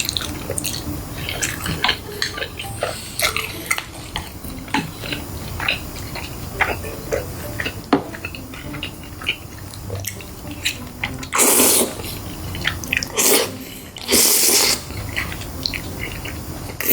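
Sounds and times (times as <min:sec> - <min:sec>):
chewing fried chicken: 0:00.0 - 0:16.9.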